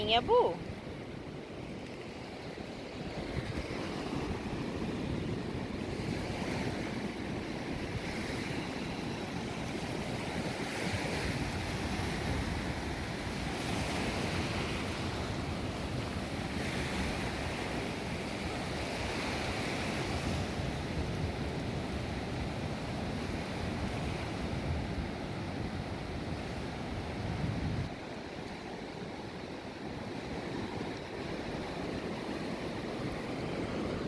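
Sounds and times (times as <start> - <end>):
wind rumbling on microphone: 0.0 - 28.8
sea surf washing on shore: 0.0 - 34.0.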